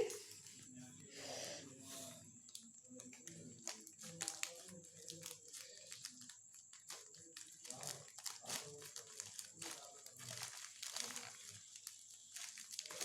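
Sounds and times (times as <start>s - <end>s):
package crinkling and tearing: 2.6s - 13.0s.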